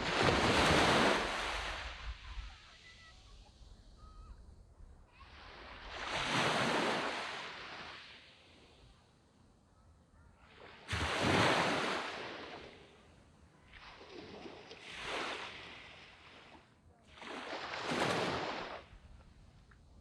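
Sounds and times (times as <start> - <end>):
waves breaking on beach: 0.0 - 4.2, 5.1 - 8.9, 10.4 - 19.2.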